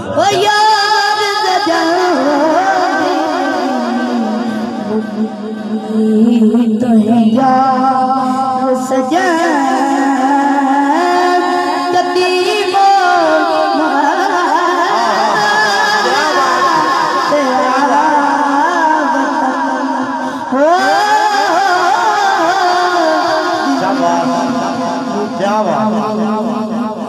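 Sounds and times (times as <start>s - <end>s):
boy singing into a microphone: 0.0s - 27.0s.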